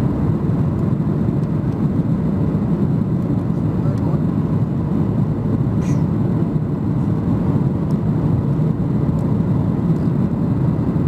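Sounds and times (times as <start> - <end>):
aircraft cabin engine rumble: 0.0 - 11.0
airflow over wing: 0.0 - 11.0.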